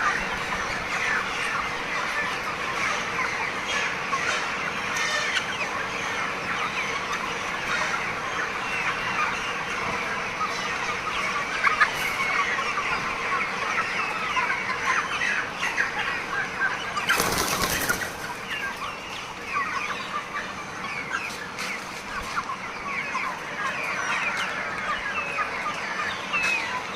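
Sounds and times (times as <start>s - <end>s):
chickens chirping and clucking: 0.0s - 26.9s.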